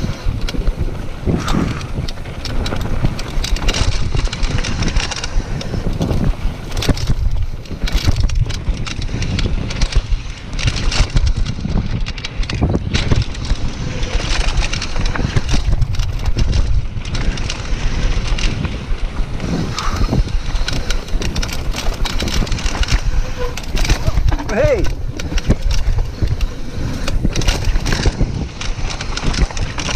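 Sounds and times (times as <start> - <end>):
bike rattles and knocks: 0.0 - 29.9
tyre noise on dirt: 0.0 - 29.9
wind buffeting microphone: 0.0 - 29.9.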